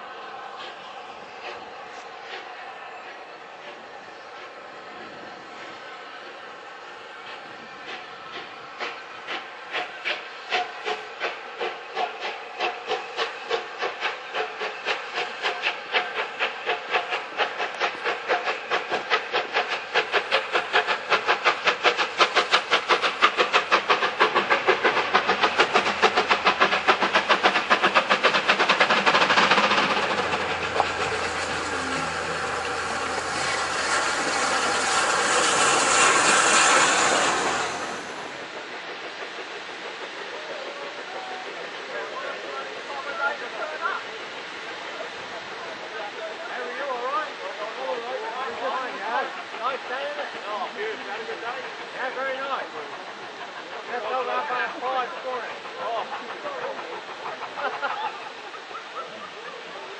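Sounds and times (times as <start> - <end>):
steam locomotive chuffing: 0.0 - 59.9
steam locomotive hiss and rumble: 0.0 - 59.9.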